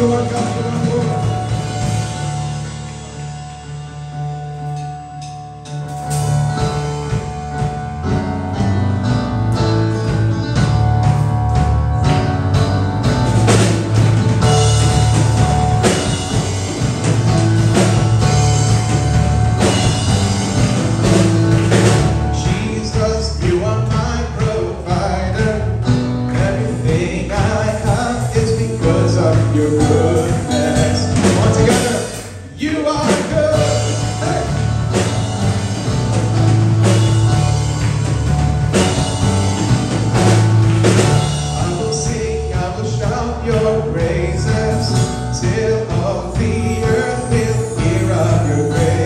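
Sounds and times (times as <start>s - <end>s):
steady bass line: 0.0s - 49.0s
worship band music: 0.0s - 49.0s.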